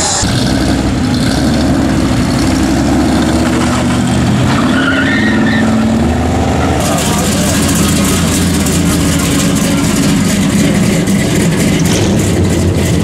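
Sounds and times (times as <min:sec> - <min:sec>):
truck engine accelerating: 0:00.0 - 0:13.0
tyres skidding and squealing: 0:00.0 - 0:13.0.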